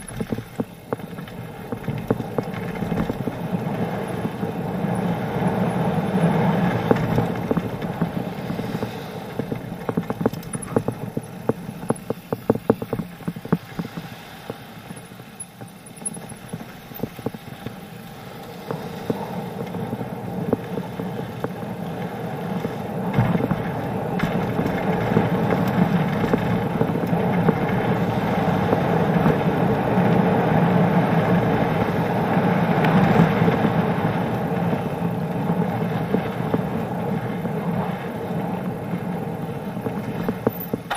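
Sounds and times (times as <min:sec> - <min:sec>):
bike rattling: 0:00.0 - 0:40.9
bike tyres rumbling over planks: 0:00.0 - 0:40.9.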